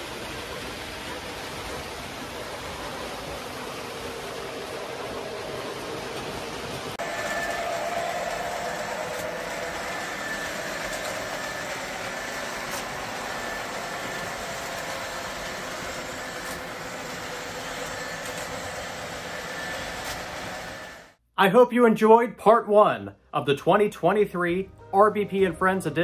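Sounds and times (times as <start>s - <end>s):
model train wheels rumbling: 0.0s - 21.1s
faint motor whine: 0.0s - 21.2s.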